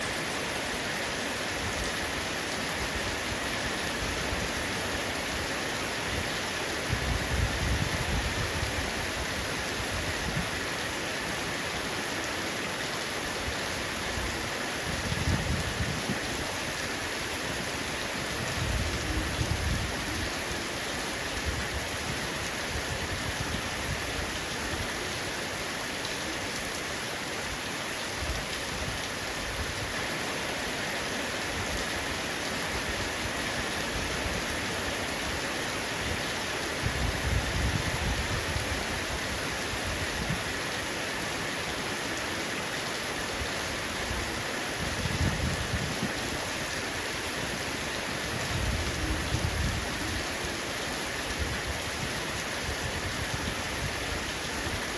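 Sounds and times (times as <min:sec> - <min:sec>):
heavy rain on a roof: 0:00.0 - 0:54.9.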